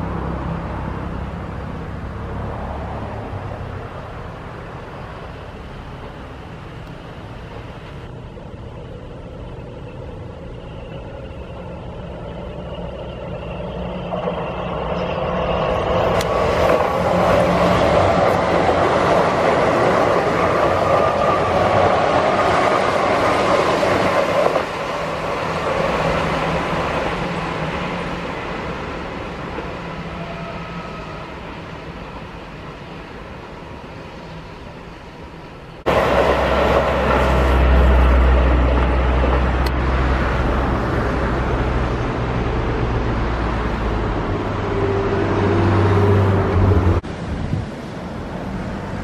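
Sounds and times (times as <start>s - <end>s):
electric train passing: 0.0s - 49.0s.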